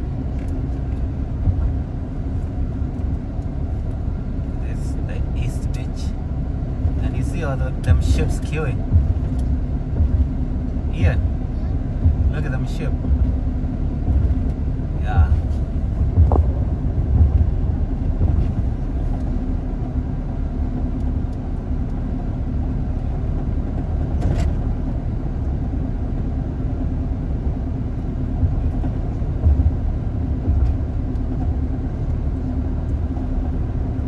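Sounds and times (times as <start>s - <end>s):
steady low hum: 0.0s - 34.0s
tyre and engine rumble: 0.0s - 34.0s.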